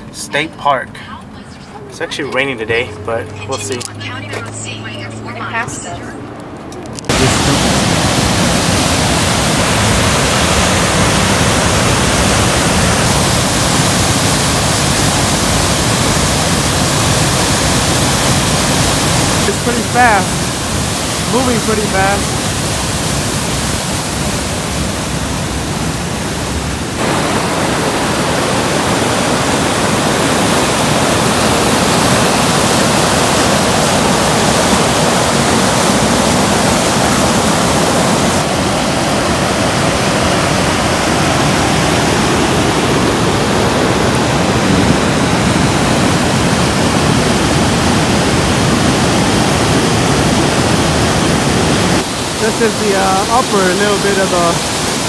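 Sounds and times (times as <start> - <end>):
waterfall rushing: 7.1 - 55.0.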